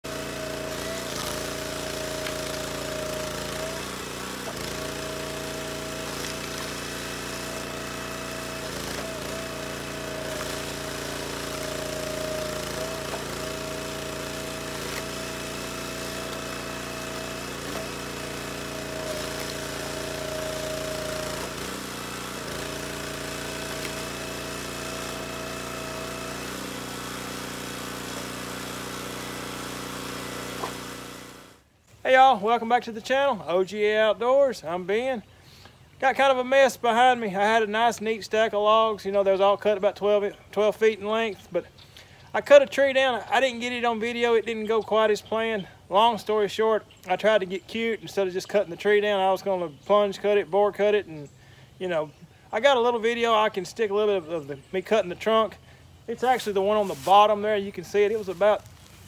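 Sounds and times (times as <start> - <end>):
small gas engine running: 0.0 - 31.7, 35.2 - 46.3, 46.9 - 59.0.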